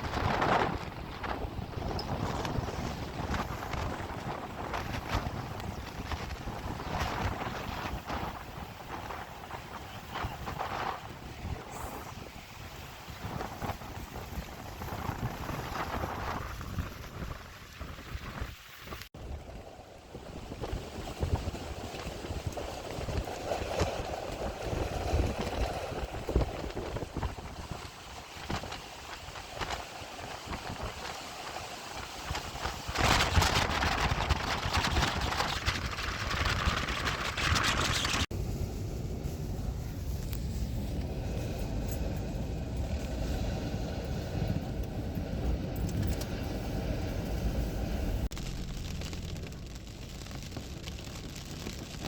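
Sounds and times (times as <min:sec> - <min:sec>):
storm wind gusting on microphone: 0:00.0 - 0:52.0.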